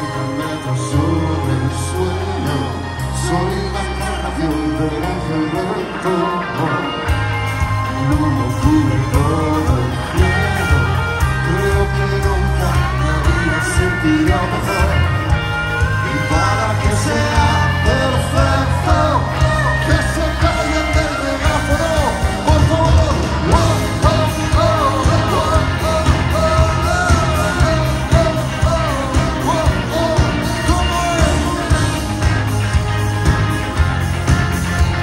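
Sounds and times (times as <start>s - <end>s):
person singing: 0.0s - 32.7s
live rock band playing: 0.0s - 35.0s.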